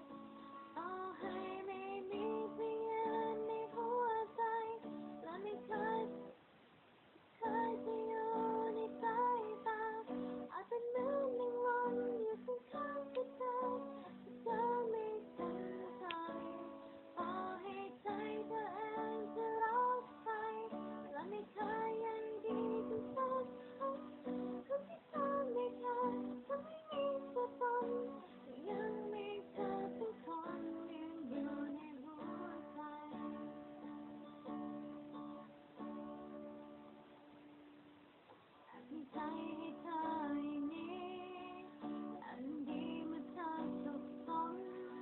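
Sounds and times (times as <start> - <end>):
woman singing: 0.0 - 6.4, 7.4 - 36.7, 38.7 - 45.0
plucked and strummed guitar: 0.0 - 6.5, 7.3 - 45.0.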